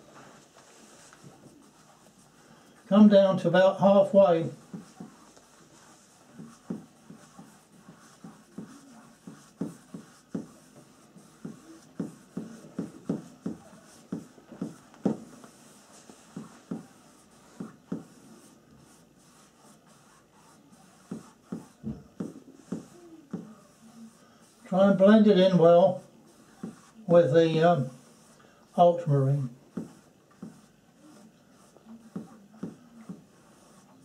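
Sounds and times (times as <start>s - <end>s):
paintbrush strokes on canvas: 0.0s - 34.0s.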